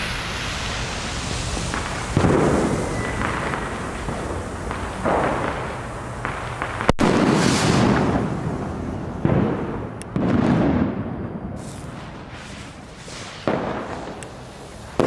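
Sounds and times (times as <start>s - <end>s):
firecracker booms echoing: 0.0s - 14.2s
firecracker sharp crack: 0.0s - 15.0s.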